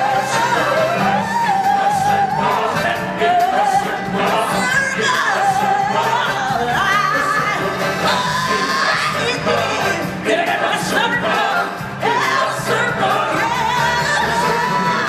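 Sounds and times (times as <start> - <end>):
backing music: 0.0 - 15.0
chorus singing held notes: 0.0 - 15.0.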